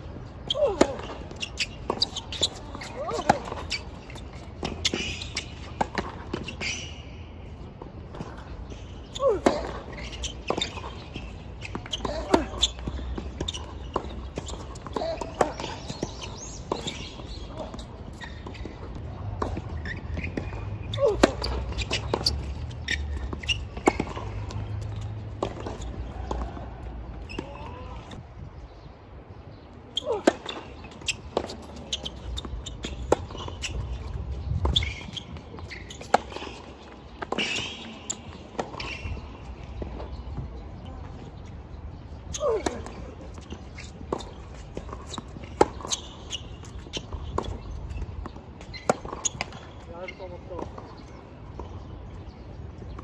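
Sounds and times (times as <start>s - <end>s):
tennis ball bounces: 0.5s - 6.8s, 9.1s - 28.2s, 30.0s - 40.6s, 42.3s - 53.0s.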